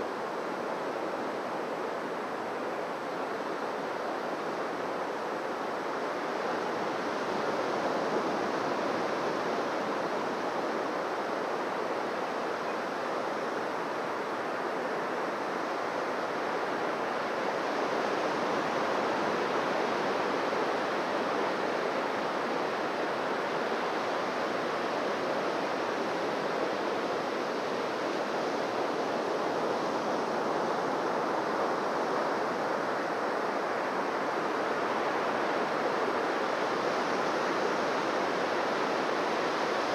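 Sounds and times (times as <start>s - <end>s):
surf washing on beach: 0.0s - 39.9s.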